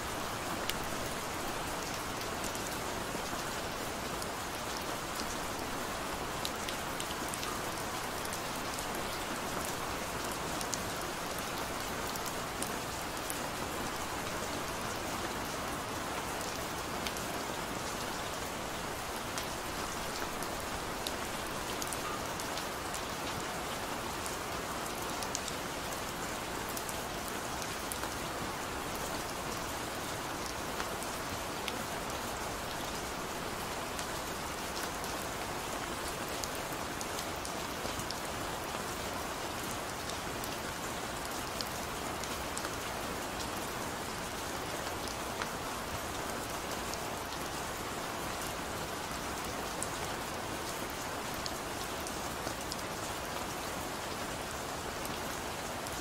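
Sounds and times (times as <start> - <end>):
gentle steady rain: 0.0 - 56.0.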